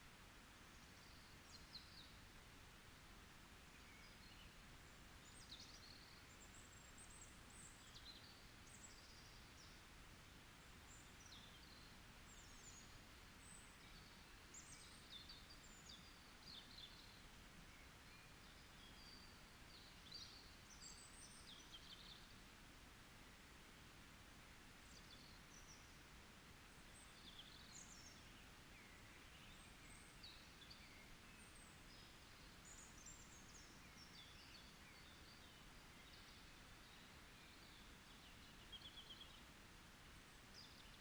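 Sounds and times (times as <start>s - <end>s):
low steady background hiss: 0.0s - 41.0s
forest birds chirping: 0.4s - 41.0s.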